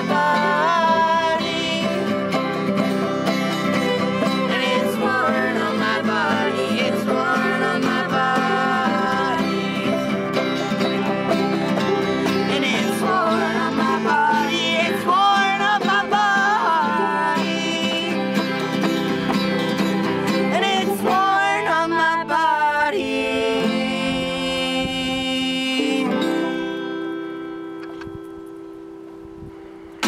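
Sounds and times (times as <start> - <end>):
person singing: 0.0 - 27.0
fiddle: 0.0 - 28.5
picked banjo: 0.0 - 30.0
strummed acoustic guitar: 0.0 - 30.0.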